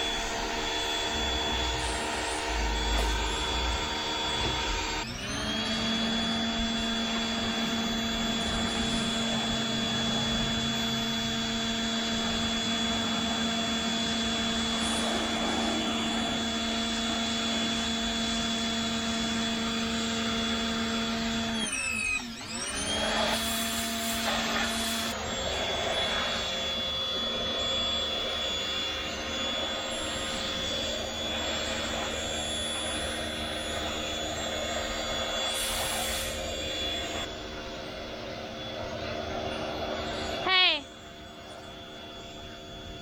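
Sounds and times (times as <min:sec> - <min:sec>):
pressure washer motor humming: 0:00.0 - 0:43.0.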